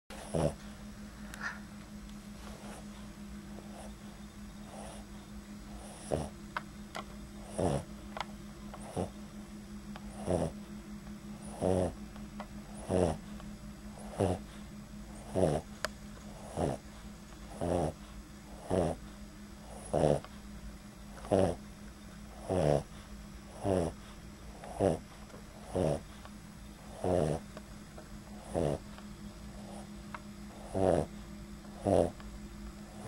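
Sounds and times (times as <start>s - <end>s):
dog snoring: 0.1s - 1.7s, 2.4s - 6.4s, 7.4s - 10.7s, 11.3s - 27.6s, 28.2s - 32.2s.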